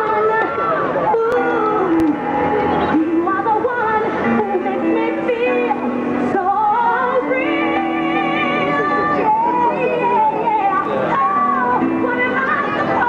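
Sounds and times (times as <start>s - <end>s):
song over sound system: 0.0s - 13.0s.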